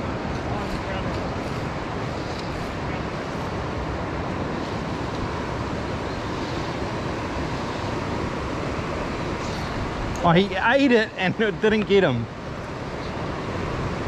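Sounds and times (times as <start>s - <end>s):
fast river water rushing: 0.0s - 14.0s.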